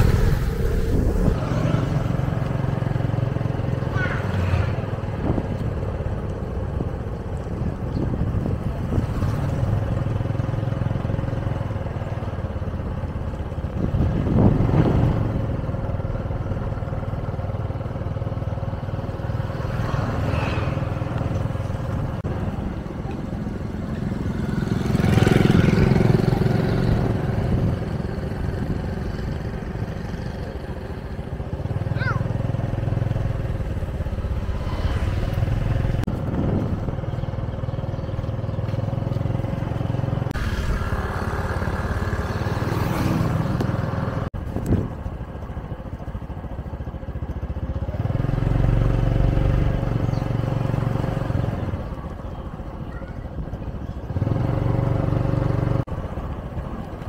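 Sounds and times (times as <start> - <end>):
motorcycle engine rumble: 0.0 - 57.0
street traffic noise: 0.0 - 57.0.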